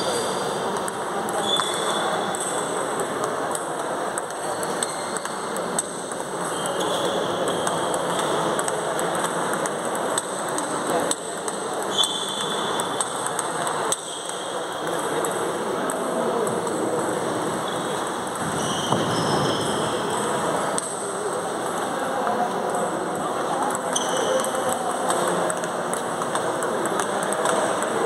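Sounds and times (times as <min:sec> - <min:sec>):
table tennis balls clicking: 0:00.4 - 0:21.9, 0:22.6 - 0:28.0.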